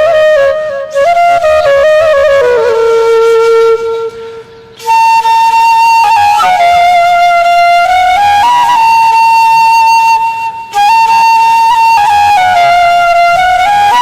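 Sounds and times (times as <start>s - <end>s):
slow flute melody: 0.0s - 14.0s.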